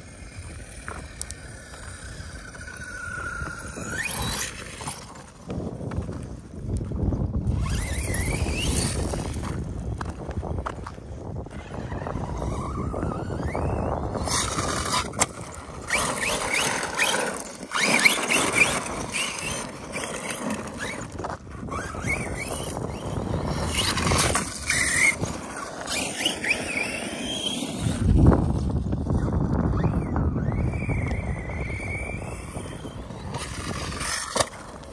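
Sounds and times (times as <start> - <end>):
electric motor whining: 0.0 - 5.6, 7.4 - 10.7, 11.5 - 34.9
tyres scrabbling through gravel: 0.0 - 34.9.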